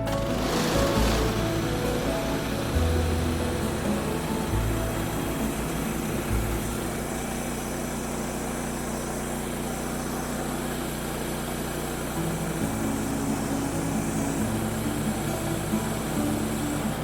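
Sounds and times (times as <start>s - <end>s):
small gasoline engine running: 0.0s - 17.0s.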